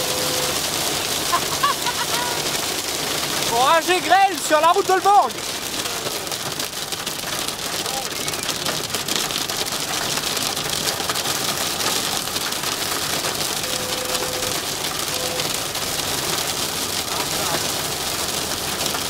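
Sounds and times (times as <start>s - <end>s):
rain and hail on car roof: 0.0s - 19.0s.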